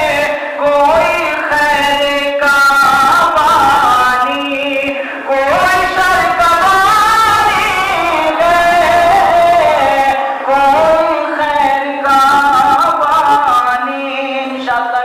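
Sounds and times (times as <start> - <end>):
man chanting into microphone: 0.0 - 15.0.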